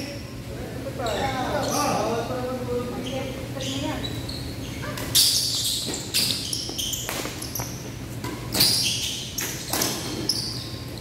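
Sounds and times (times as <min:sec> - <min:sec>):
sneakers squeaking on court floor: 0:01.0 - 0:02.1, 0:03.0 - 0:11.0.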